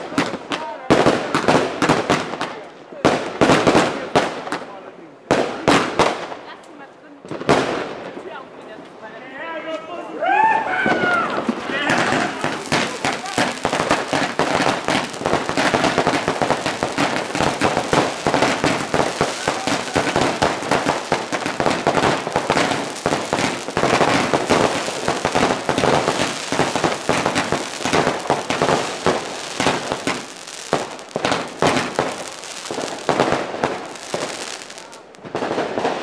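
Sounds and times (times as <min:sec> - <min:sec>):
fireworks crackling: 0:00.0 - 0:08.3, 0:10.7 - 0:36.0.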